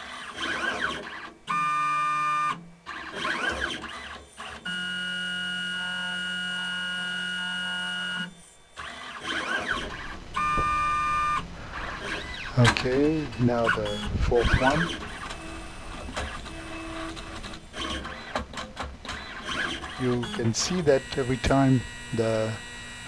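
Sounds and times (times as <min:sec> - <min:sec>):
robot arm motors whining: 0:00.0 - 0:23.0.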